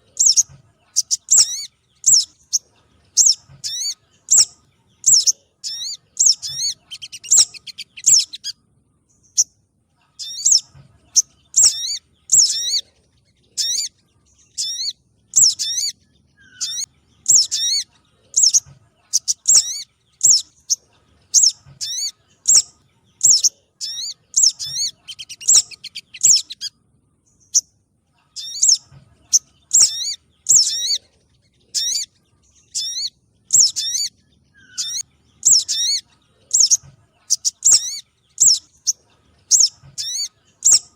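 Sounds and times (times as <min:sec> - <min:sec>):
recorded bird calls: 0:00.0 - 0:40.9.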